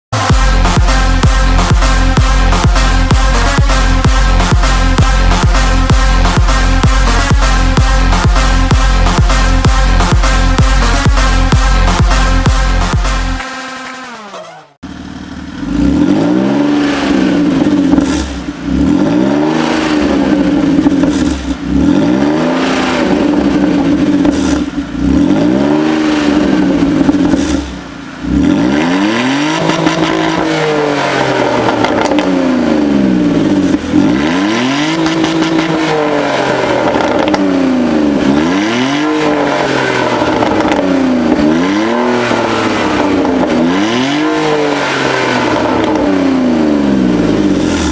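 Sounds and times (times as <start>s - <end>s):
car engine revving open exhaust: 0.0s - 47.9s.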